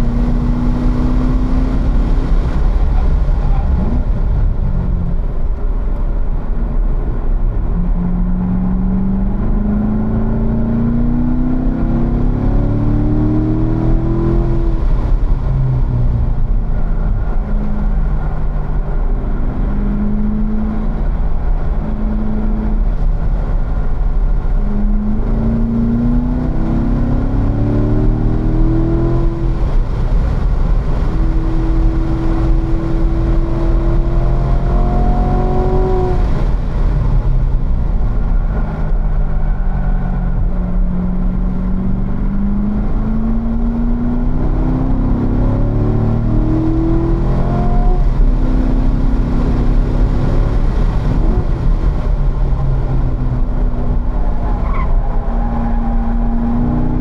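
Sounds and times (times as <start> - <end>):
car engine revving: 0.0 - 57.0
wind and tyre noise: 0.0 - 57.0.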